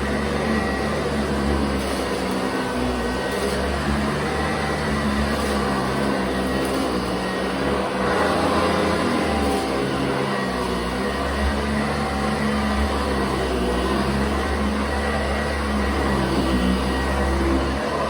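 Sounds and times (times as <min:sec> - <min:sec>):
vacuum cleaner running on carpet: 0:00.0 - 0:18.0.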